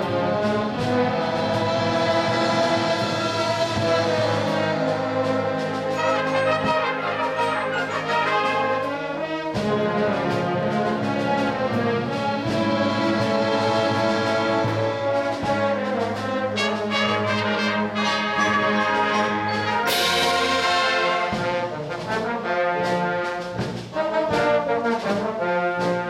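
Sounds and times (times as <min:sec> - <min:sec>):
concert band playing: 0:00.0 - 0:26.0.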